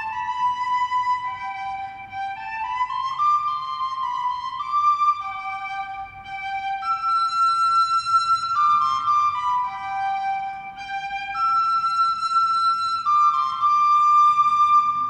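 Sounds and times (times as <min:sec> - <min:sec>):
faint accompaniment: 0:00.0 - 0:15.0
slow flute melody: 0:00.0 - 0:15.0.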